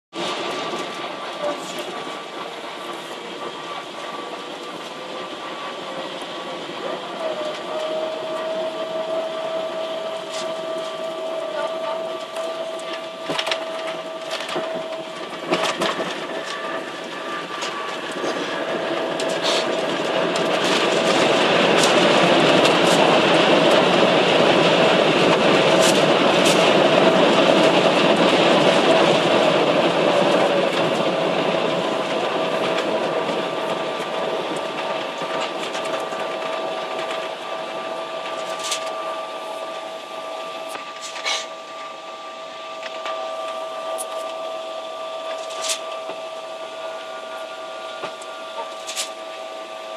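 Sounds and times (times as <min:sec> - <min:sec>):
jet engines reverse thrust roar: 0:00.2 - 0:49.9
steady whine: 0:00.2 - 0:49.9.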